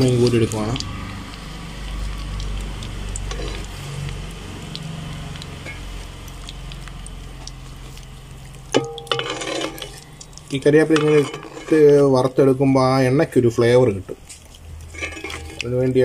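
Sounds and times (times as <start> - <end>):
metal skimmer stirring in pan: 0.0 - 12.4, 14.2 - 15.9
leaves sizzling in hot oil: 0.0 - 16.0.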